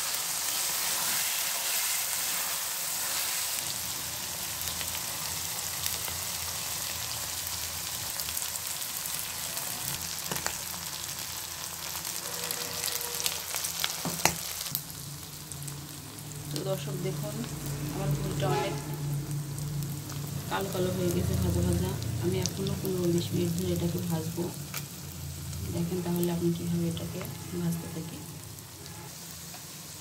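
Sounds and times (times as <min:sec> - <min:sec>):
meat sizzling in oil: 0:00.0 - 0:30.0.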